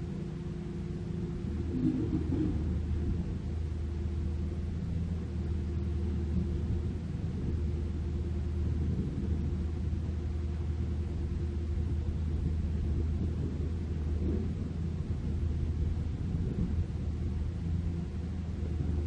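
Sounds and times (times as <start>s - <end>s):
heavy diesel machinery droning: 0.0s - 19.0s.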